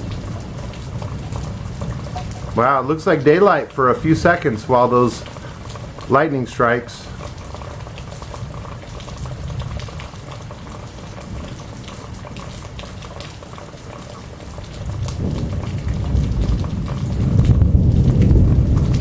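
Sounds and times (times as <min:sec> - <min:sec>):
thunder rumbling: 0:00.0 - 0:13.4, 0:14.4 - 0:19.0
drips and splashes: 0:00.0 - 0:19.0
heavy rain falling: 0:00.0 - 0:19.0.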